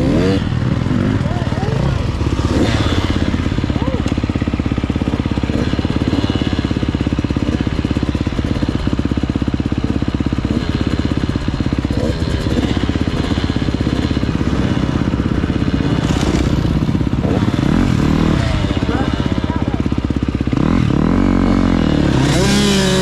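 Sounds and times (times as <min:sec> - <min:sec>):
two-stroke motorbike engine running: 0:00.0 - 0:23.0.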